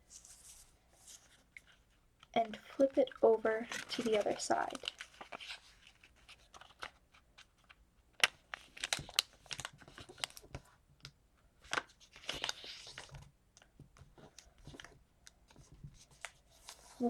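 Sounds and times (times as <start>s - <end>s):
paper crinkling and folding: 0.0s - 10.8s, 11.6s - 17.0s
paper rustling: 0.0s - 10.8s, 11.6s - 13.3s, 14.0s - 17.0s.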